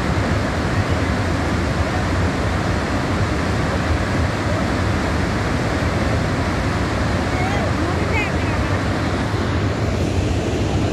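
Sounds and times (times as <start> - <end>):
water rushing through spillway: 0.0 - 10.9.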